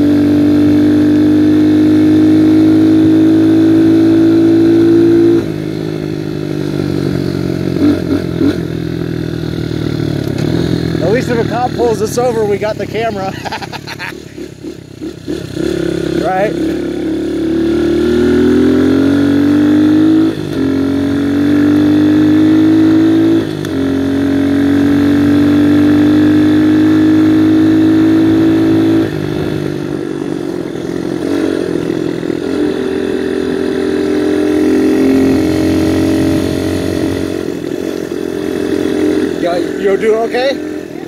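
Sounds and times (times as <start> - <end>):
dirt bike engine accelerating: 6.8 - 41.0.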